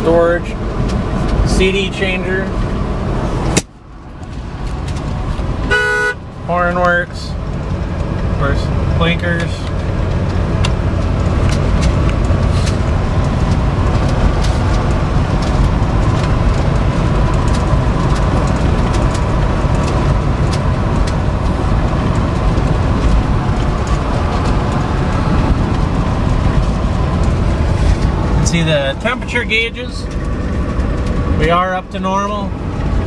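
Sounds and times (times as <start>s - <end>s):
road and wind rumble: 0.0s - 33.0s.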